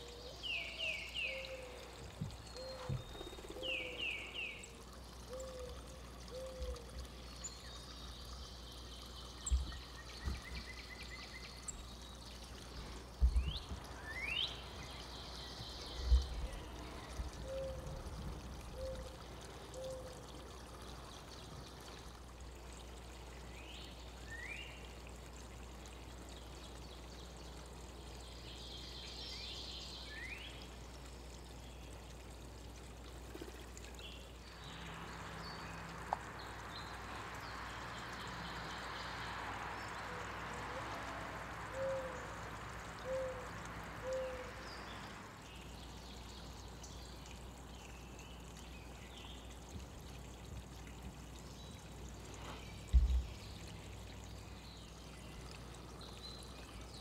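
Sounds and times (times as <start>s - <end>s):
faint steady hiss: 0.0s - 57.0s
songbirds chirping: 0.0s - 57.0s.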